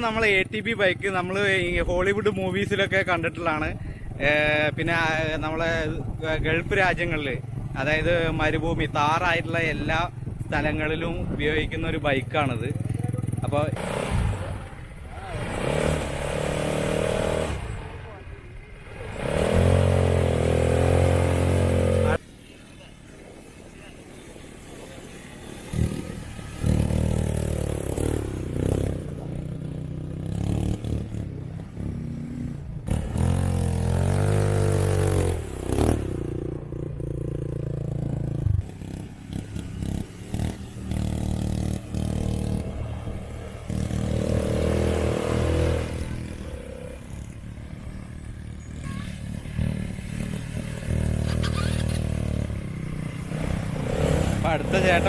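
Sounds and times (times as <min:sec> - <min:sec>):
quad bike engine revving: 0:00.4 - 0:18.2, 0:18.8 - 0:22.2, 0:25.6 - 0:55.0.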